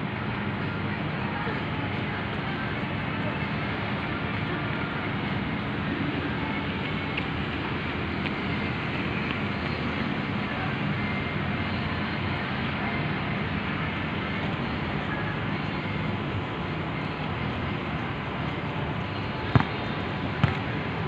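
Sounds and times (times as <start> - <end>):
distant city traffic rumble: 0.0 - 21.0.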